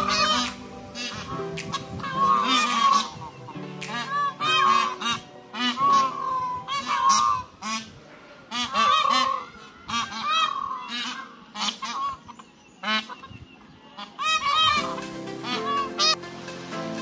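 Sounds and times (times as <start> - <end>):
peafowl calling: 0.0 - 13.4, 14.0 - 16.2.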